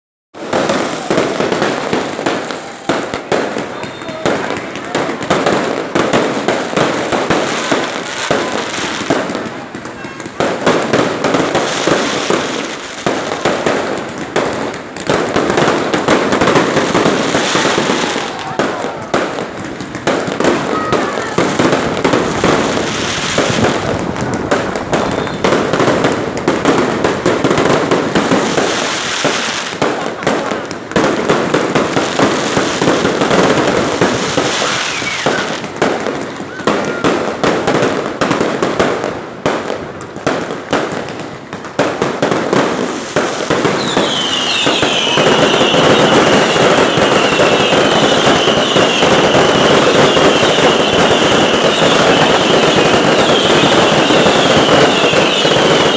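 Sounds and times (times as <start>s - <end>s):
fireworks bangs and crackling: 0.3s - 55.9s.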